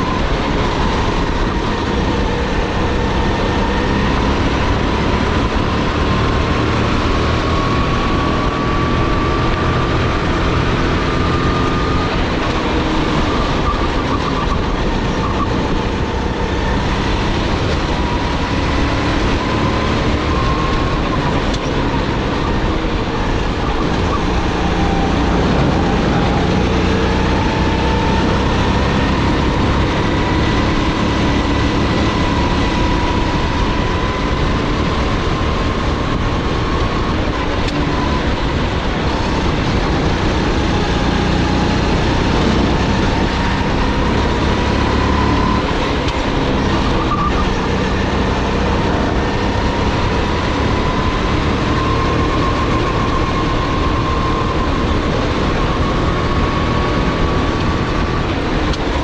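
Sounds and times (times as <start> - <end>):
kart engine running under load: 0.0 - 59.0
steady rush of noise: 8.1 - 59.0.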